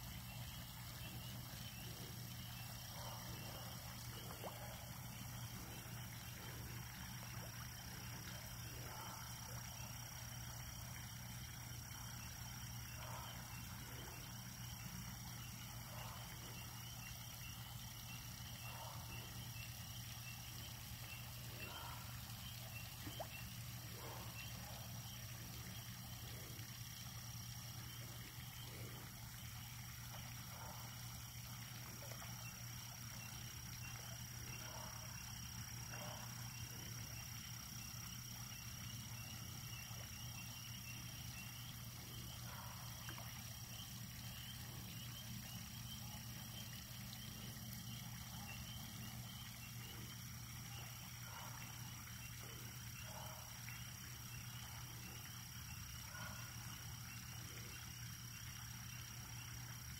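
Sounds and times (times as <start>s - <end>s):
frogs calling: 0.0s - 59.9s.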